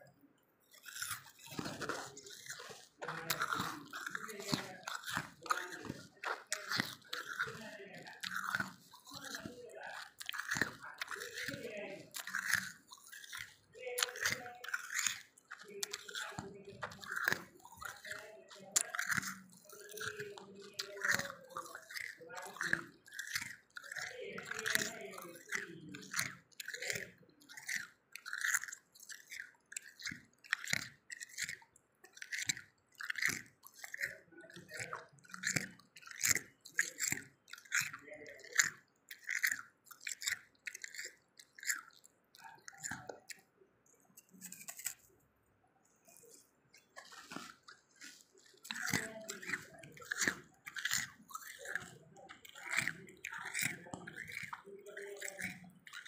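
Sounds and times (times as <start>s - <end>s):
frost being chewed: 0.0s - 56.0s.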